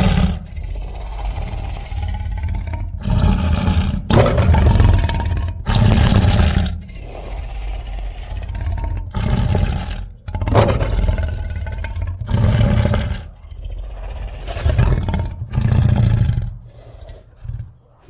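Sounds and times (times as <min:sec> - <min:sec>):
creature roaring: 0:00.0 - 0:17.8.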